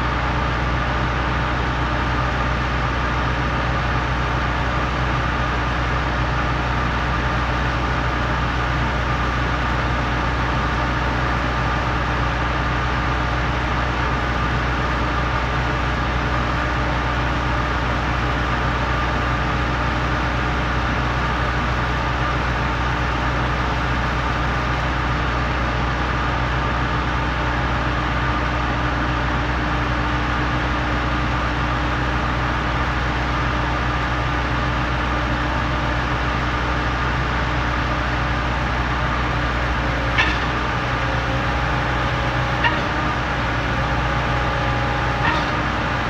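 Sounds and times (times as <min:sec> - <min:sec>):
heavy engines droning: 0:00.0 - 0:46.0.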